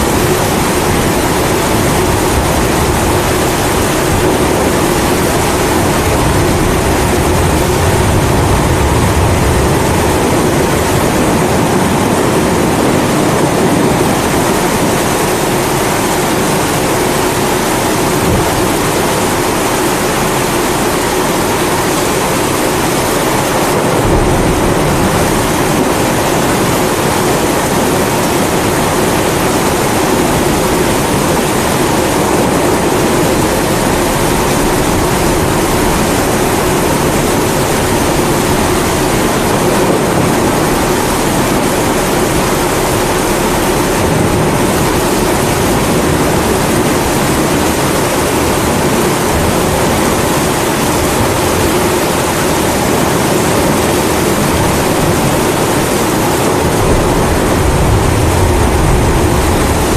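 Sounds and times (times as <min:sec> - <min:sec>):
low rumbles of thunder: 0:00.0 - 0:15.1, 0:18.0 - 0:55.7, 0:56.5 - 0:59.9
steady rain: 0:00.0 - 0:59.9.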